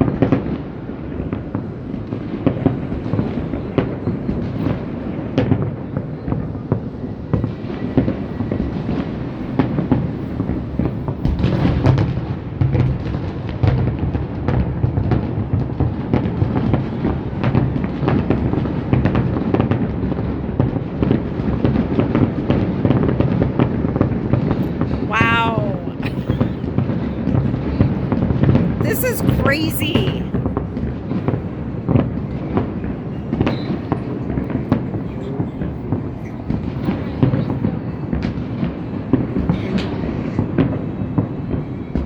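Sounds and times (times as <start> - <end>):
fireworks booms and crackling pops: 0.0 - 25.0, 30.4 - 42.0.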